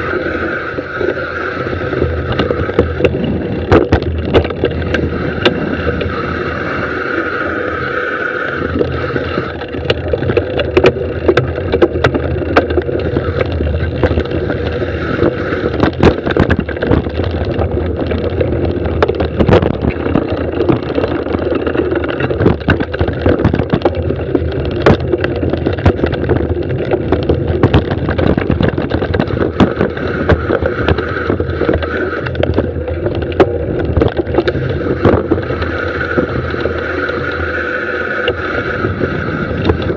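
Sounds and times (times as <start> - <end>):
bike tyre and trail noise: 0.0 - 39.9
bike knocks and rattles: 1.1 - 6.2, 8.7 - 39.9.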